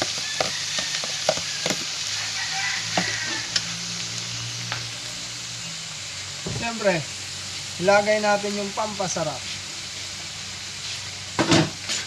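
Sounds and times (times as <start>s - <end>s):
snails sizzling in a wok: 0.0s - 12.0s.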